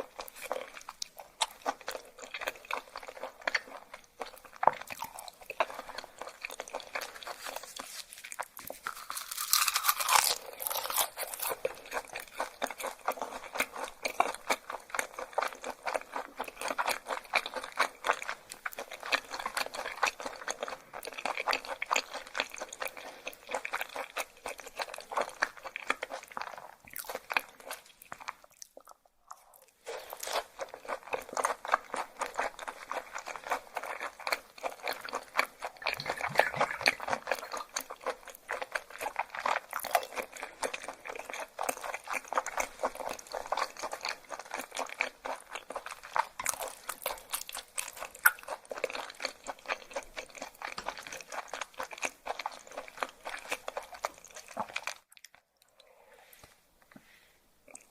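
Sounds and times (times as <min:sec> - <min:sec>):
wet crunchy chewing: 0:00.0 - 0:55.8.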